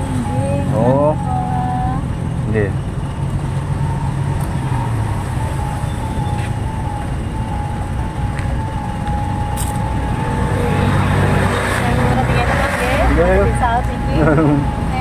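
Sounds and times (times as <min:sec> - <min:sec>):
road traffic noise: 0:00.0 - 0:15.0
truck engine running: 0:00.0 - 0:15.0.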